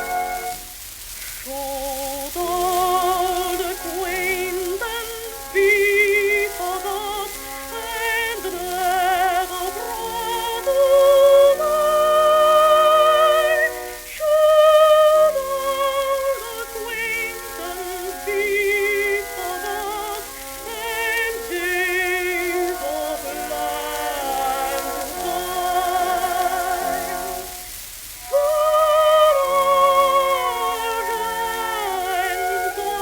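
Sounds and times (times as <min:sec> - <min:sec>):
old record vibrato melody: 0:00.0 - 0:33.0
record surface hiss and crackle: 0:00.0 - 0:33.0
soft accompaniment: 0:00.0 - 0:33.0.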